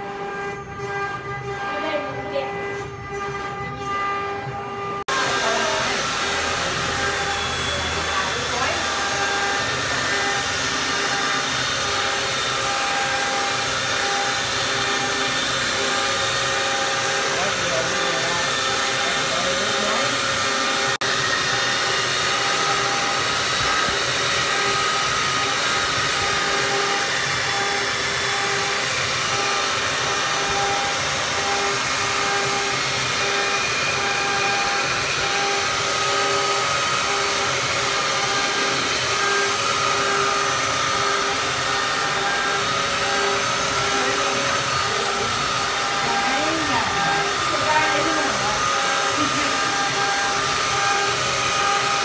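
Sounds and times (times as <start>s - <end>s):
belt sander motor whine: 0.0s - 52.0s
belt sanding wood: 0.0s - 52.0s.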